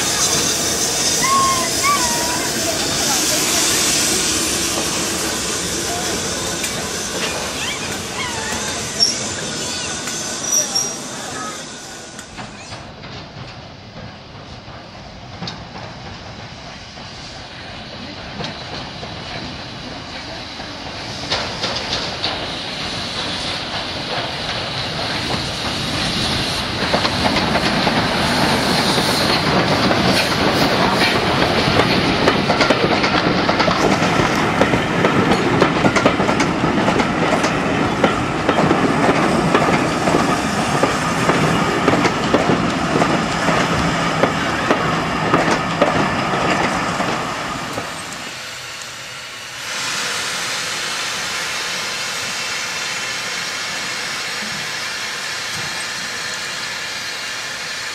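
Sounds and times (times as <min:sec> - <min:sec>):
steam hissing from locomotive: 0:00.0 - 0:13.1, 0:13.8 - 0:57.9
train wheels clicking over rail joints: 0:02.5 - 0:57.9.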